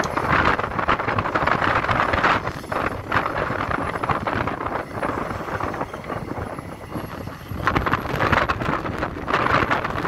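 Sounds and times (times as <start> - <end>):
excavator engine and hydraulics: 0.0 - 10.0.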